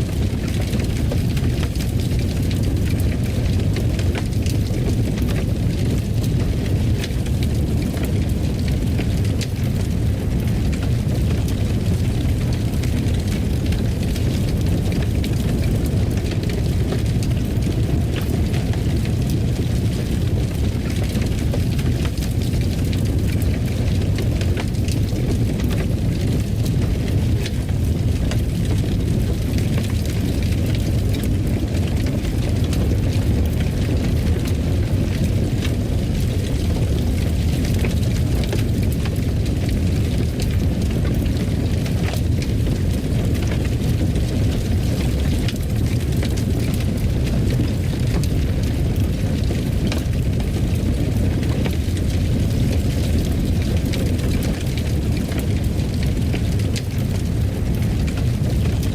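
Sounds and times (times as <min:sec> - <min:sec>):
fire crackles and pops: 0:00.0 - 0:58.9
low rumble of fire burning: 0:00.0 - 0:58.9.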